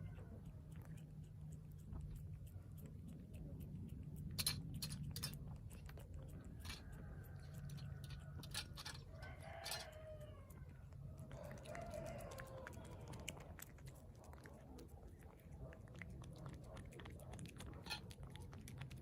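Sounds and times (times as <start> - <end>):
cat chewing food: 0.0 - 19.0.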